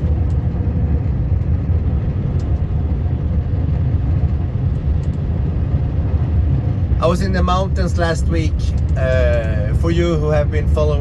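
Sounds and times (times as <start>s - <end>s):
engine and tyres rumbling: 0.0s - 11.0s
vehicle rattles: 0.0s - 11.0s.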